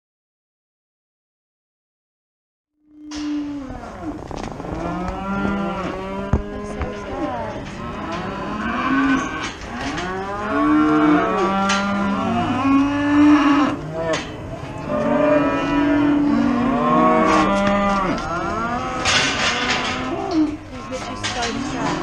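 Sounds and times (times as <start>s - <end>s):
cattle mooing: 2.8s - 22.0s.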